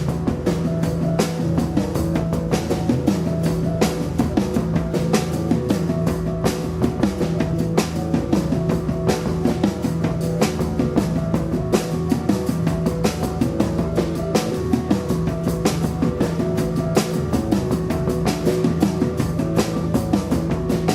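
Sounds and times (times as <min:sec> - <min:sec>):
fast drum beat: 0:00.0 - 0:20.9
rock band playing live: 0:00.0 - 0:20.9.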